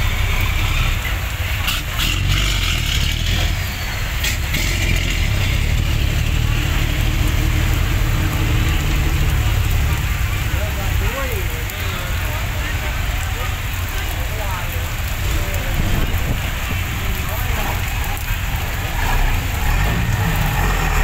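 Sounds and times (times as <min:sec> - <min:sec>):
diesel truck engines rumbling: 0:00.0 - 0:21.0.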